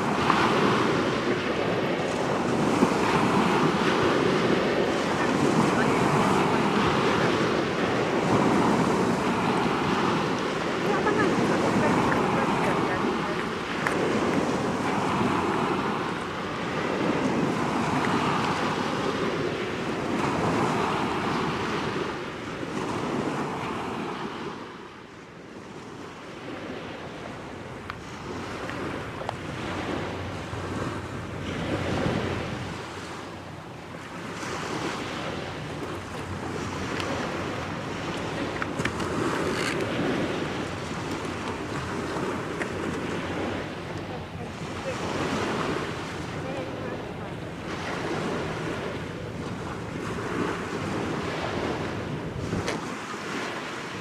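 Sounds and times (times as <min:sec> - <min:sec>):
waves washing on shore: 0:00.0 - 0:54.0
wind buffeting microphone: 0:00.0 - 0:54.0.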